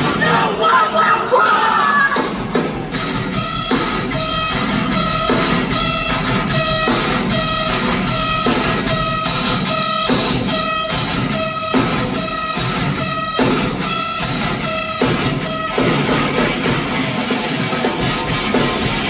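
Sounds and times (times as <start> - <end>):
drum kit: 0.0 - 0.9, 2.0 - 19.0
distorted electric guitars: 0.0 - 19.0.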